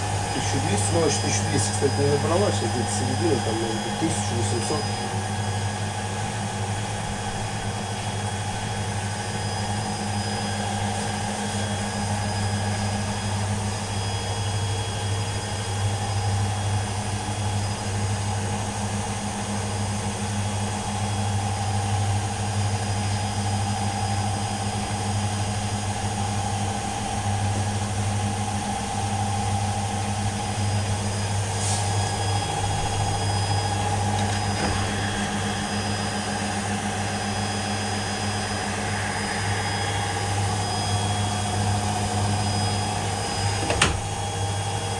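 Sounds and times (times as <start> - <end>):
washing machine spinning: 0.0 - 16.0, 21.3 - 44.9.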